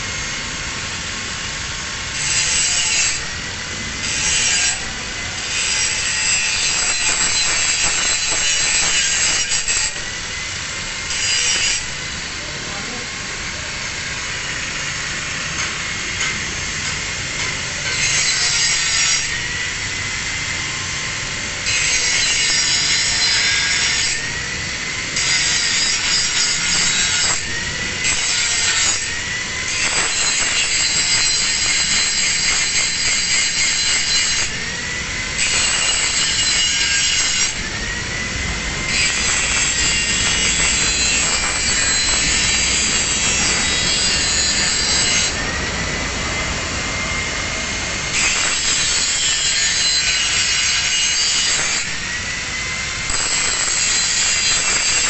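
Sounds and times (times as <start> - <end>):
angle grinder grinding steel: 1.7 - 55.0.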